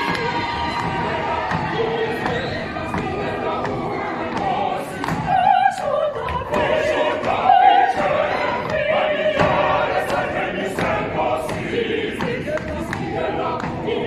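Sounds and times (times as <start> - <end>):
large choir singing: 0.0 - 14.0.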